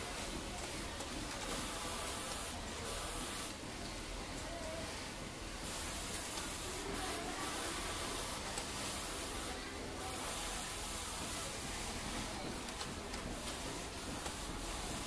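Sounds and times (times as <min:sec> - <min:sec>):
workshop hiss: 0:00.0 - 0:15.0.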